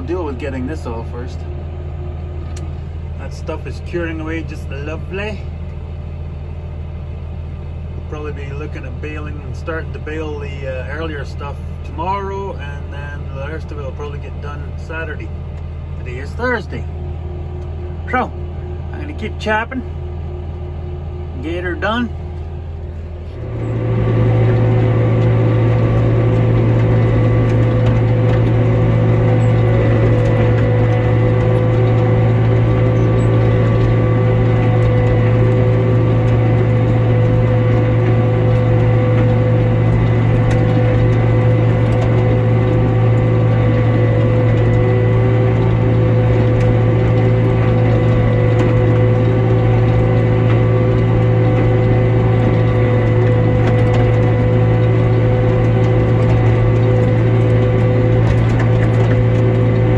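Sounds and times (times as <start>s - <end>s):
tractor engine hum: 0.0s - 59.9s
mower gears whining: 8.0s - 59.9s.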